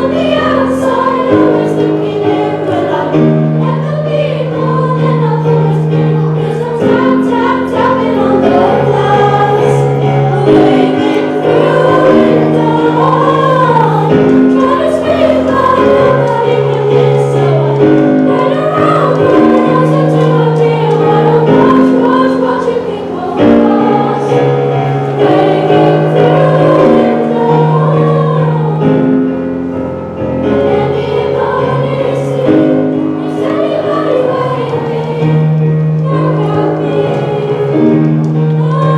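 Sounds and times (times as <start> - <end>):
choir of young voices singing: 0.0 - 38.9
sustained instrumental chords: 0.0 - 38.9.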